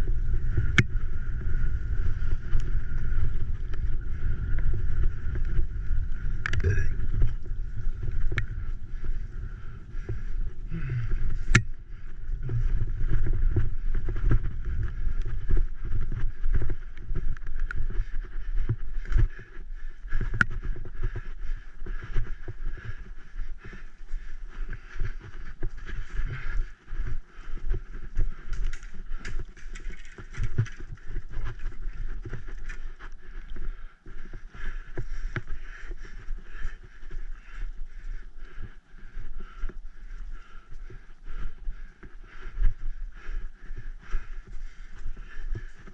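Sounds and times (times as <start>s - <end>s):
bicycle rattling over rough trail: 0.0s - 45.9s
wind buffeting microphone: 0.0s - 45.9s.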